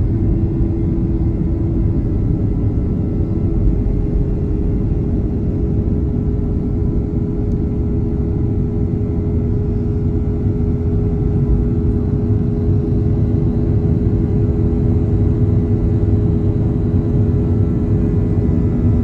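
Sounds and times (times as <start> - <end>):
constant humming tones: 0.0 - 19.0
jet engine rumble in cabin: 0.0 - 19.0.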